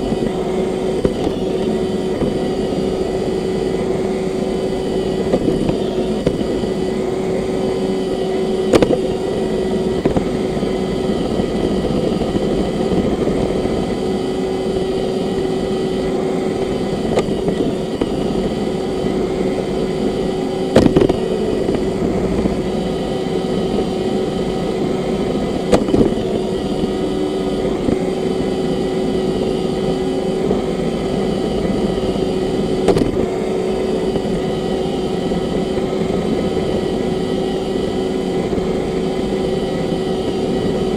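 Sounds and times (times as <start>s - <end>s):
robot vacuum running: 0.0s - 40.9s.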